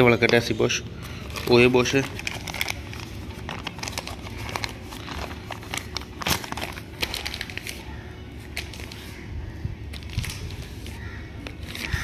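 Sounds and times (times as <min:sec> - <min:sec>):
plastic packaging crinkling: 0:00.9 - 0:12.0.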